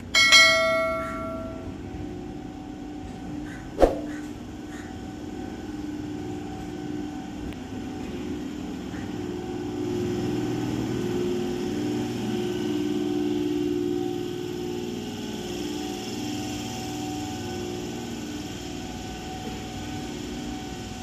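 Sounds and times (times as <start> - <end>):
train mechanical drone: 0.0 - 21.0.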